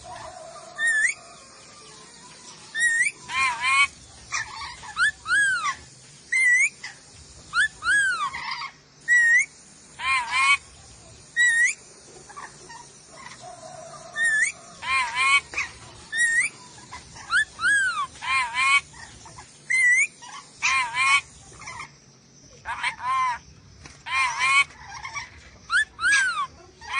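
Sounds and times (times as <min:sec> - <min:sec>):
parrot calling: 0:00.0 - 0:01.4, 0:02.7 - 0:10.7, 0:11.4 - 0:23.4, 0:24.0 - 0:26.9.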